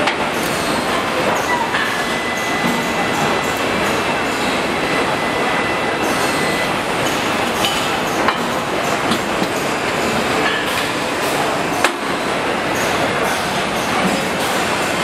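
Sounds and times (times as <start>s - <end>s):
loud machinery noise: 0.0s - 15.0s.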